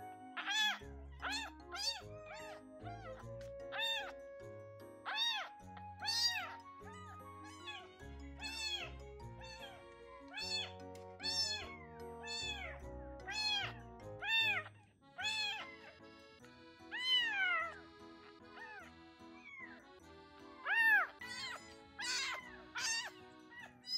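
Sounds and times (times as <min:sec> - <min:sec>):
background music: 0:00.0 - 0:23.9
kitten meowing: 0:00.3 - 0:04.1, 0:05.0 - 0:15.9, 0:16.9 - 0:17.8, 0:18.6 - 0:19.8, 0:20.6 - 0:23.9.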